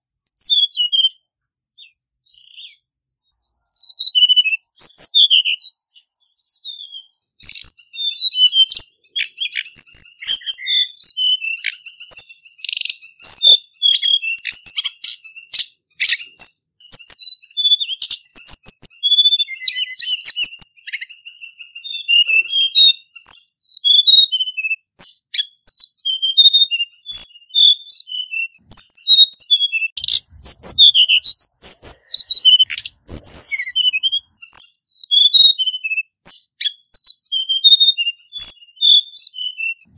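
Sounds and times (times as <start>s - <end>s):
bird singing with trills: 0.0s - 39.9s.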